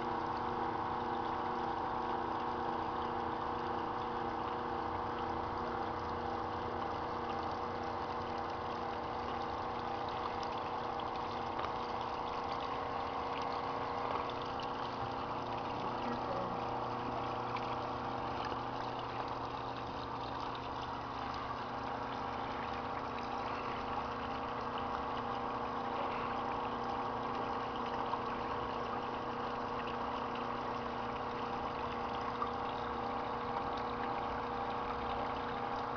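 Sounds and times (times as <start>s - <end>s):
pond pump humming: 0.0s - 35.9s
water trickling and splashing: 0.0s - 35.9s.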